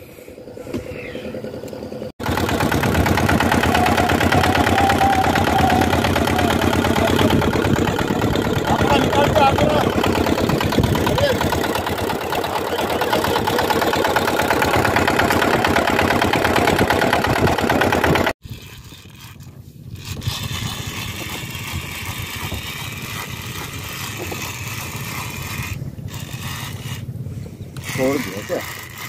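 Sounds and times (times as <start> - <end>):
boat engine running: 0.3 - 29.0.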